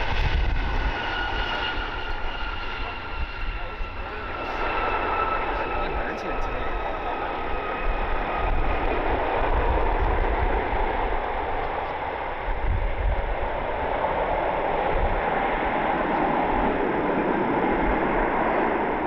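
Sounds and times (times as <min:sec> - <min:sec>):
jet engine noise: 0:00.0 - 0:19.0
wind gusting on microphone: 0:00.0 - 0:19.0.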